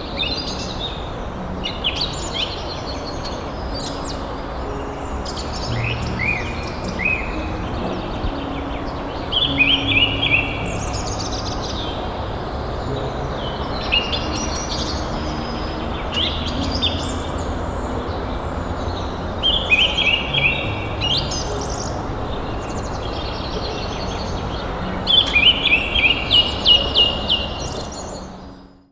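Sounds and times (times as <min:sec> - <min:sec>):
rushing background noise: 0:00.0 - 0:28.8
songbird singing: 0:00.0 - 0:28.9.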